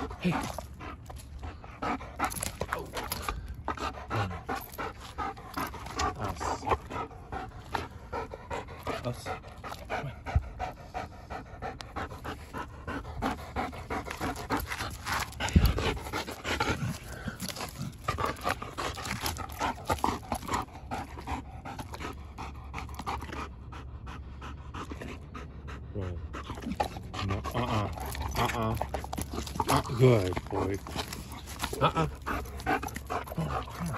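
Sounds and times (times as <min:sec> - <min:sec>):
dog panting hard: 0:00.0 - 0:33.9.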